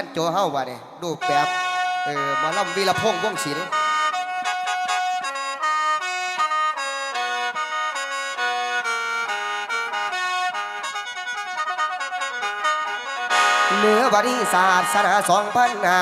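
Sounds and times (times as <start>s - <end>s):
reedy mouth organ melody: 0.8s - 16.0s.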